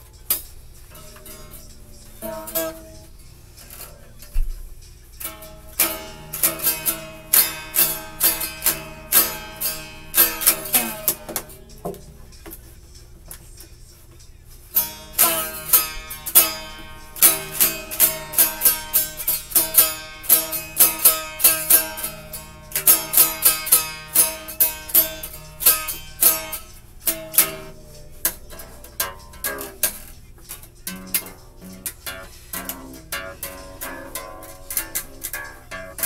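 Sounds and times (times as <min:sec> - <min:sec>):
plucked acoustic guitar: 0:00.0 - 0:12.7, 0:14.6 - 0:36.0.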